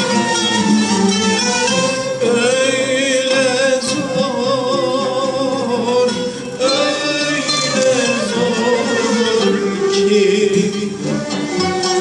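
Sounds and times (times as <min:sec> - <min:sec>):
classical ensemble of strings: 0:00.0 - 0:12.0
man singing with vibrato: 0:01.4 - 0:12.0.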